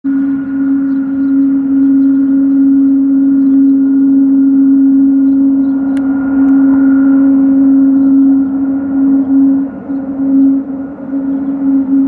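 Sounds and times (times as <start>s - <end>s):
jet engines droning at takeoff: 0.1s - 12.0s.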